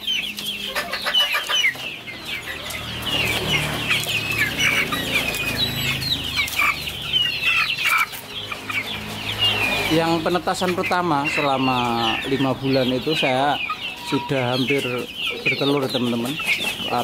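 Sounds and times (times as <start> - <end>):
young chickens clucking and peeping: 0.0 - 17.0.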